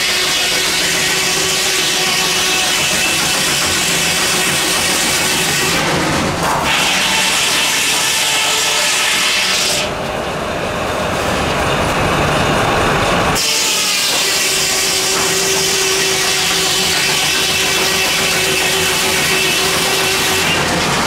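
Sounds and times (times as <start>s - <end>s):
circular saw cutting log: 0.0s - 10.0s, 13.4s - 21.0s.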